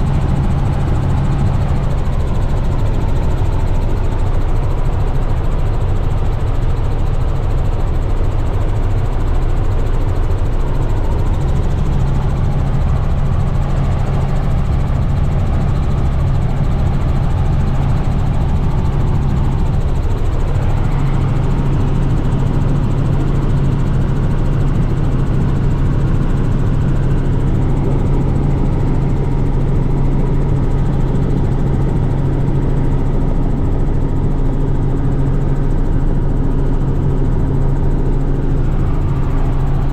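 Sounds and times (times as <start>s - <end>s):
low hum: 0.0s - 4.8s, 10.0s - 39.9s
helicopter engine and rotor drone: 0.0s - 39.9s.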